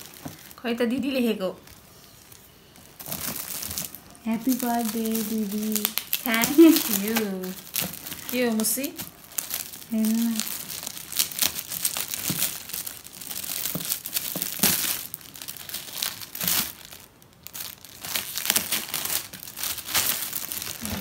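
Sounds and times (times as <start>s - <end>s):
wrapping paper crinkling and tearing: 0.0s - 21.0s.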